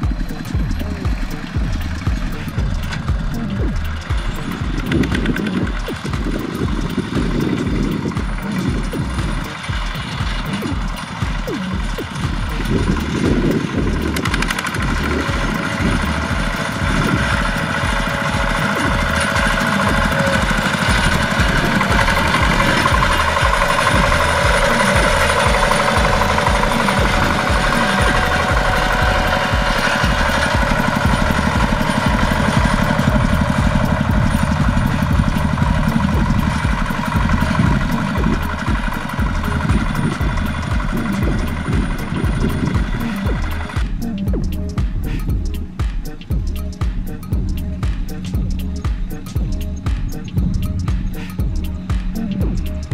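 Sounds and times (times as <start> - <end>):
diesel tractor engine chugging: 0.0 - 52.9.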